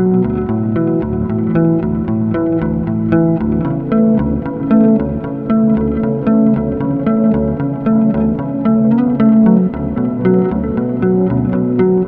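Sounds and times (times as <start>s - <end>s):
plucked guitar music with bass: 0.0s - 12.0s.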